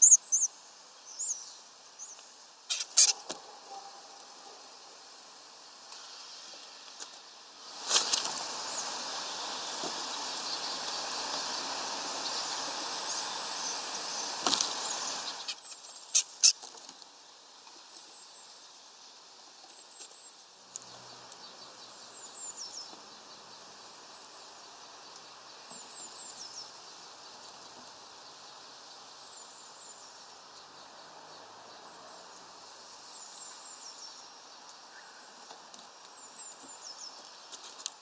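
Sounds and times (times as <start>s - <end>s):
steady outdoor hiss: 0.0s - 38.0s.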